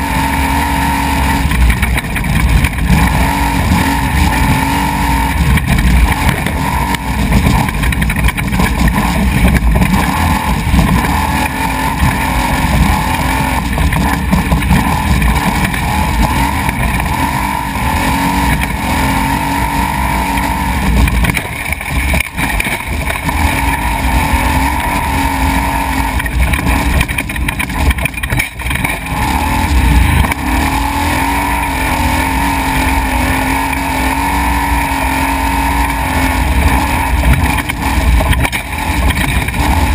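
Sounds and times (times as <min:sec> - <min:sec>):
rumble from rocky dirt track: 0:00.0 - 0:39.9
truck engine running hard: 0:00.0 - 0:39.9.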